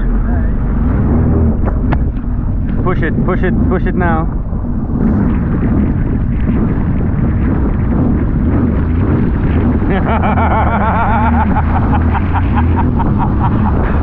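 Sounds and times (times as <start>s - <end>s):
jet ski engine running: 0.0s - 14.0s
wind buffeting microphone: 0.0s - 14.0s.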